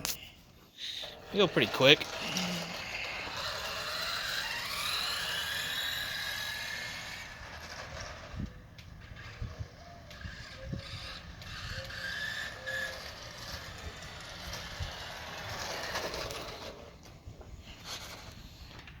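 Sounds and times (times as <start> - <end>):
toy car electric motor whining: 0.8 - 19.0.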